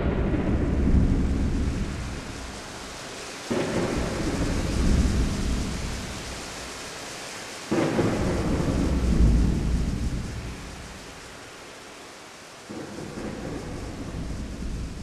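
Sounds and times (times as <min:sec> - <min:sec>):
thunder clap and rumble: 0:00.0 - 0:06.7, 0:07.7 - 0:11.0, 0:12.7 - 0:15.0
steady rain: 0:00.0 - 0:15.0.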